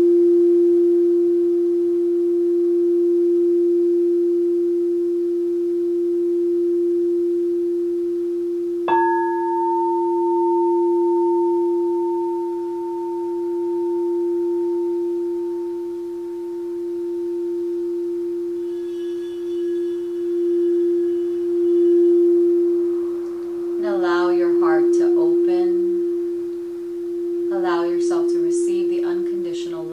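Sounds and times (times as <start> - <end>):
higher singing bowl ringing: 0.0 - 29.9
low singing bowl tone: 0.0 - 29.9.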